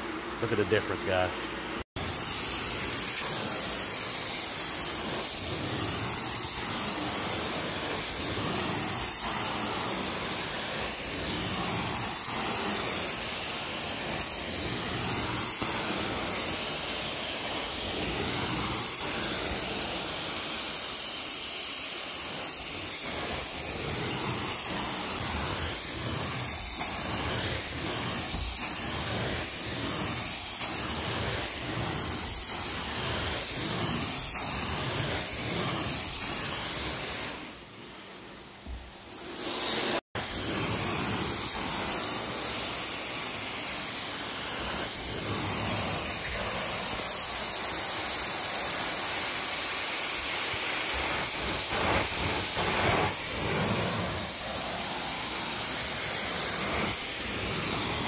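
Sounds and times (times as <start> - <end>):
carpet extraction wand hissing: 2.0 - 58.0.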